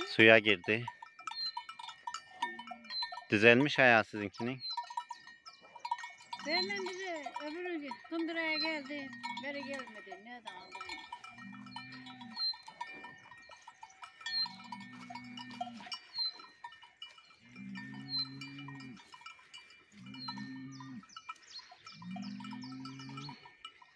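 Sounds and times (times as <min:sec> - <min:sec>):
cowbells clanking: 0:00.0 - 0:23.9.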